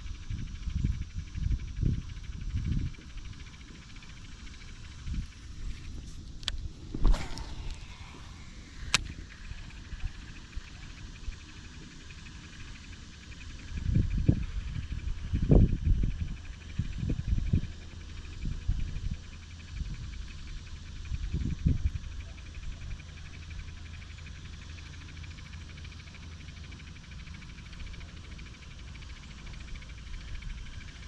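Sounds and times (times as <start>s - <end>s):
insects trilling: 0.0s - 31.0s
low hum: 0.0s - 31.0s.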